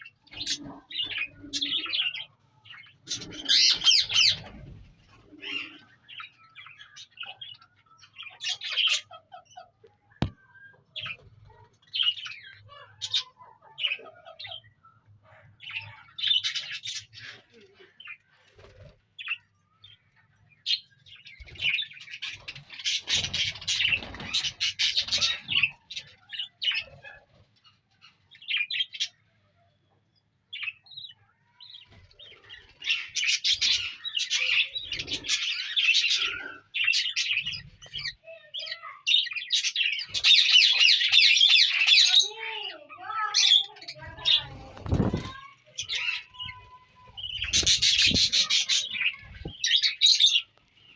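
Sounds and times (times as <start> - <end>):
budgerigars chirping and chattering: 0.0 - 29.3, 30.5 - 50.9.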